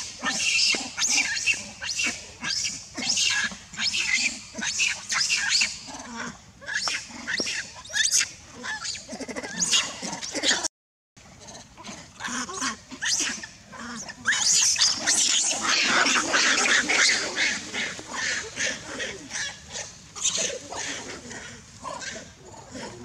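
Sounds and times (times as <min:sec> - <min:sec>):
monkeys screaming and squealing: 0:00.0 - 0:10.7, 0:11.4 - 0:23.0.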